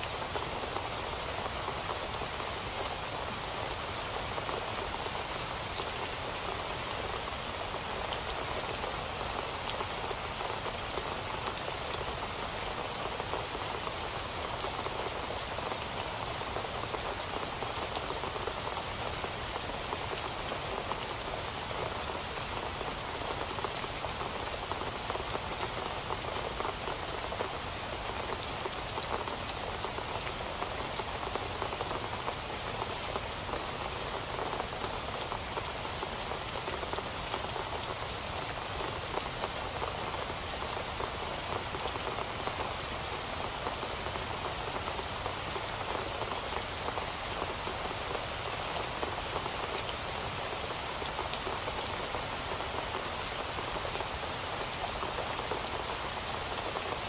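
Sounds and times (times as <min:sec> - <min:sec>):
raindrops pattering on a surface: 0:00.0 - 0:57.0.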